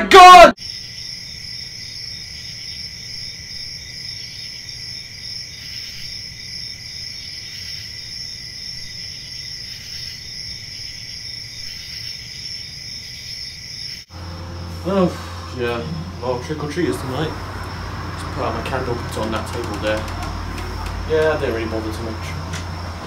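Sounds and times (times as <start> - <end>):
crickets chirping: 0.6 - 23.0.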